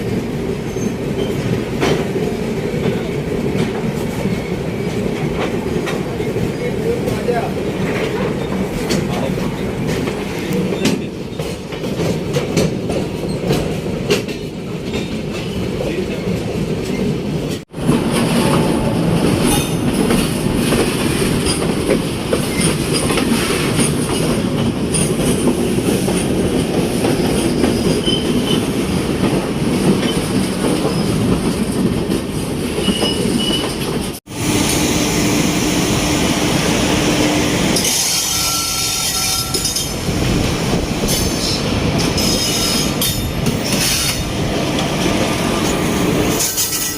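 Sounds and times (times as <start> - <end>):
train wheels clattering over rails: 0.0 - 34.8, 37.6 - 46.9.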